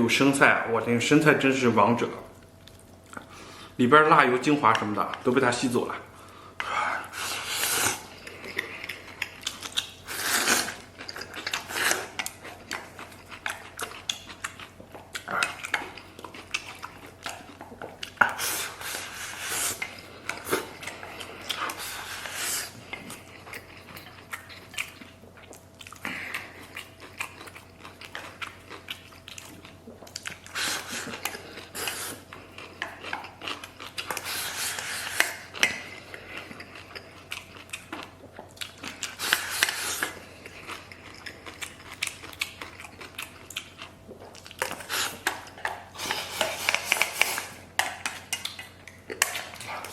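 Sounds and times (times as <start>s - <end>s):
eating noises: 6.2s - 49.9s.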